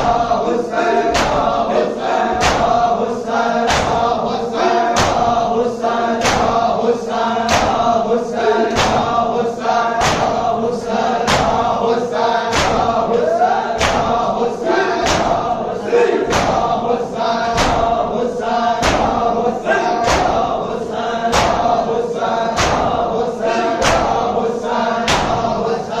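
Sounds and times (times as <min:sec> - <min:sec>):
sharp rhythmic beat: 0:00.0 - 0:06.8, 0:08.6 - 0:09.4, 0:10.0 - 0:11.9, 0:12.5 - 0:18.2, 0:18.8 - 0:25.7
men chanting in chorus: 0:00.0 - 0:26.0.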